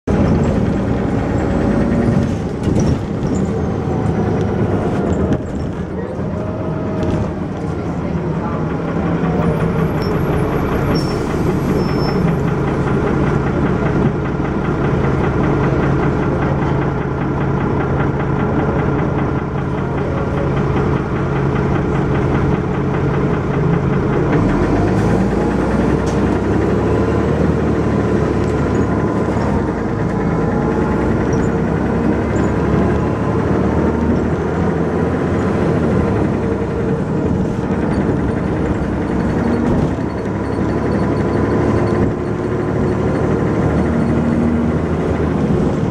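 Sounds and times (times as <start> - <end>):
bus diesel engine knocking: 0.0 - 45.9.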